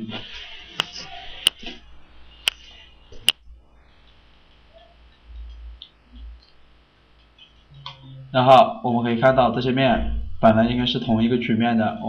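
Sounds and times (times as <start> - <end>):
faint low rumble: 1.8 - 11.6.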